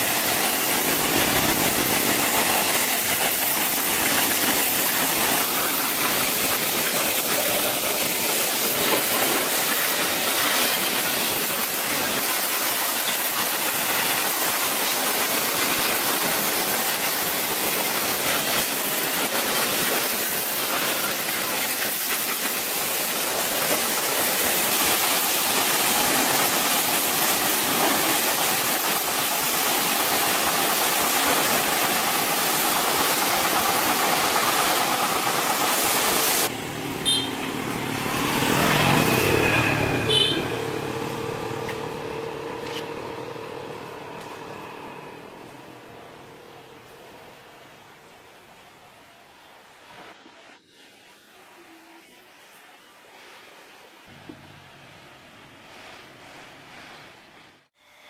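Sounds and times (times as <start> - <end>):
loud hissing machine noise: 0.0 - 47.6.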